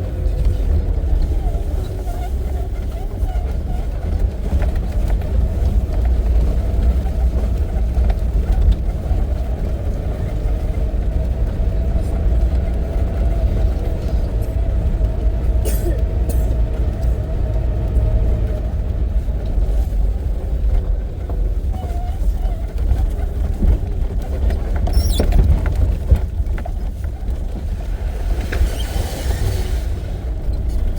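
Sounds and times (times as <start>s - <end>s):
vehicle engine and road noise: 0.0s - 30.9s.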